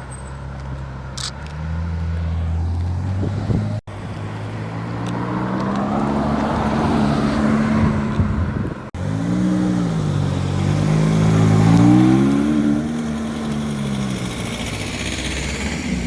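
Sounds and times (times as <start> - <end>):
car engine revving: 1.2 - 16.0
car engines accelerating past: 1.3 - 16.0.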